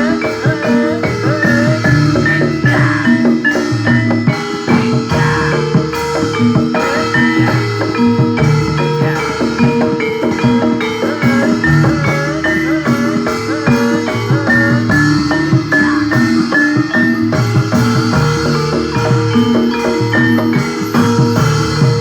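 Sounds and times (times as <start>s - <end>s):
drums in steady rhythm: 0.0s - 22.0s
gamelan ensemble music: 0.0s - 22.0s
repeating metallophone notes: 0.0s - 22.0s
wavering melody line: 0.0s - 22.0s.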